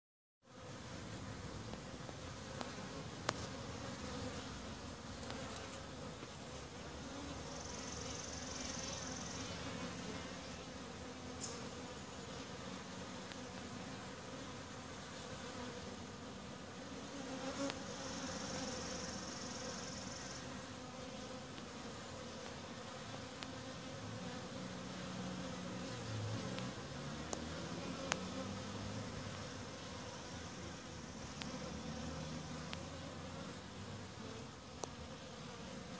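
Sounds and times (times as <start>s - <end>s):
honeybees buzzing: 0.5s - 35.9s.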